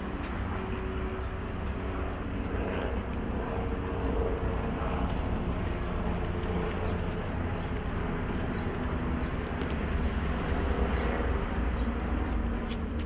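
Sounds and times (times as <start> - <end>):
faint hum: 0.0 - 13.0
outdoor background rumble: 0.0 - 13.0.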